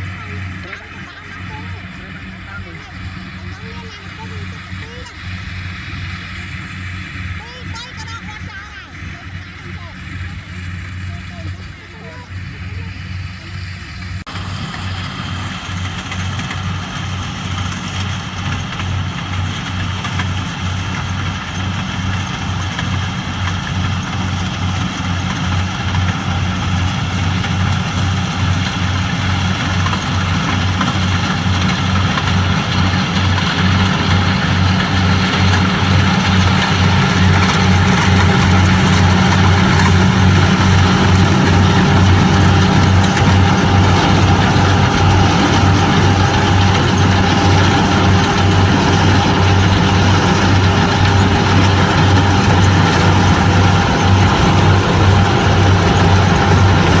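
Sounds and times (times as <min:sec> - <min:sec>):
harvester engine throbbing: 0:00.0 - 0:57.0.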